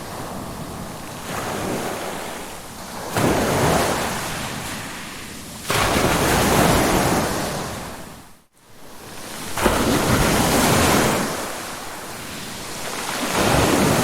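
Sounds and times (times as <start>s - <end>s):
waves crashing: 0.0s - 8.1s, 8.9s - 14.0s.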